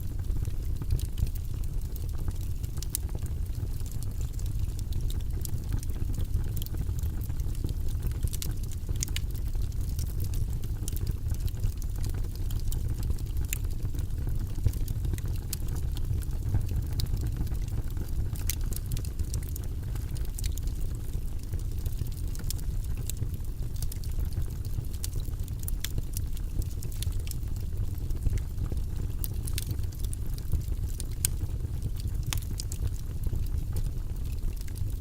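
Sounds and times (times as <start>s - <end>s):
fire crackling and popping: 0.0s - 35.0s
low rumble of flames: 0.0s - 35.0s.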